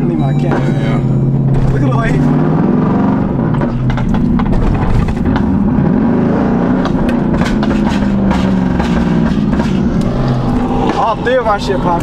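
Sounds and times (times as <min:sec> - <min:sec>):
car engine revving: 0:00.0 - 0:12.0
sharp exhaust cracks: 0:00.5 - 0:12.0.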